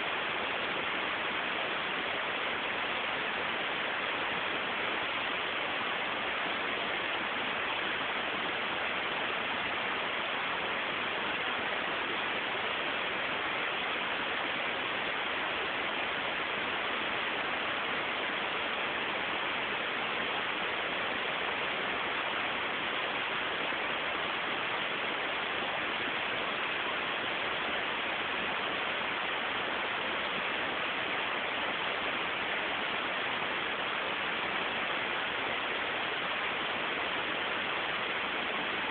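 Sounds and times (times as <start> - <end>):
steady recording hiss: 0.0 - 38.9.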